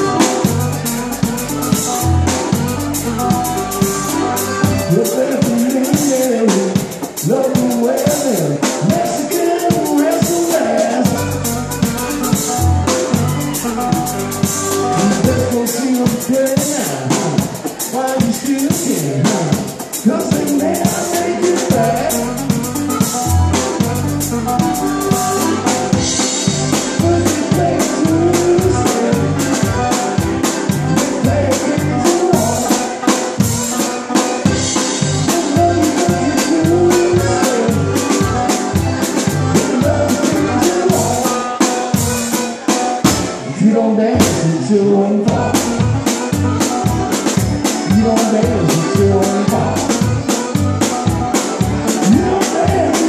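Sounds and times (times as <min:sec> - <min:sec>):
drum kit playing fast: 0:00.0 - 0:43.6, 0:44.2 - 0:53.0
banjo: 0:00.0 - 0:44.6, 0:45.3 - 0:53.0
accordion: 0:00.0 - 0:53.0.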